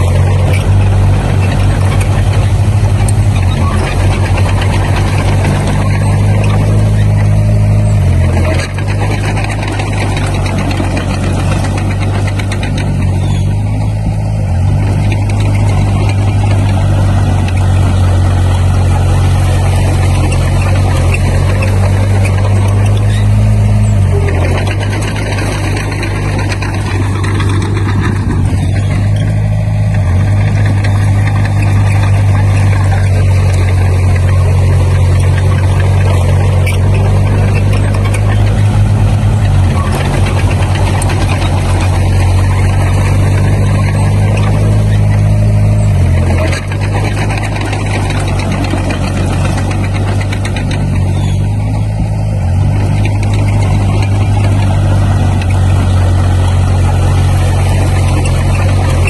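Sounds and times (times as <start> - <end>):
bulldozer diesel engine running: 0.0 - 59.0
dense rattling noise: 0.0 - 59.0.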